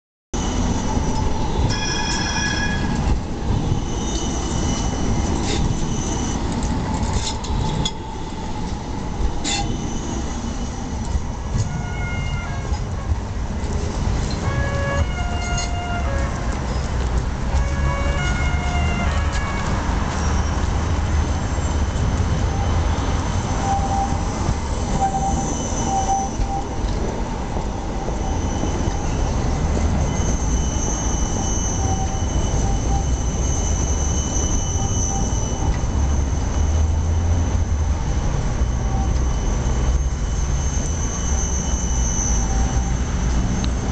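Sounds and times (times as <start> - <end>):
wheels squealing on curve: 0.4 - 7.8, 14.3 - 27.0, 27.8 - 43.9
tram wheels rumbling: 0.4 - 43.9.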